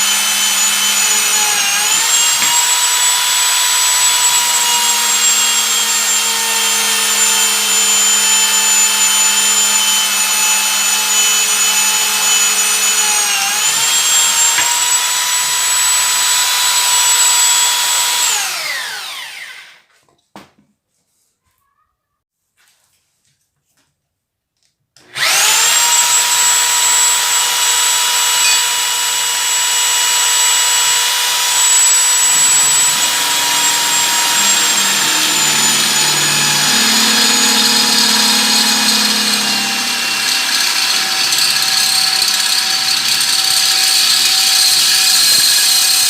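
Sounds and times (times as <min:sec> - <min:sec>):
electric drill whining: 0:00.0 - 0:19.8, 0:25.0 - 0:46.0.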